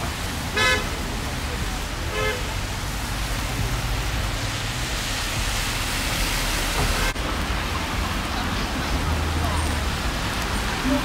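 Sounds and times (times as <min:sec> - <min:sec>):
bus tyres swishing through water: 0:00.0 - 0:11.0
steady rain hiss: 0:00.0 - 0:11.0
traffic on a wet road: 0:00.0 - 0:11.0.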